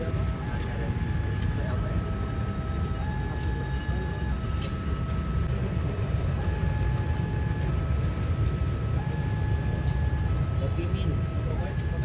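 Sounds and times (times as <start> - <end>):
diesel locomotive engine rumble: 0.0 - 12.0
two-tone electronic warning alarm: 0.0 - 12.0.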